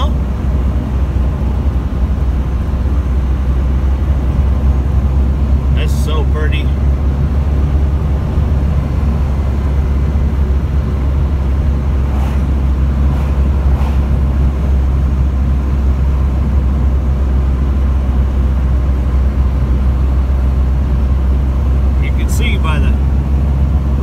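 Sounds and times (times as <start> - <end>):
car engine droning: 0.0 - 24.0
road noise inside car: 0.0 - 24.0.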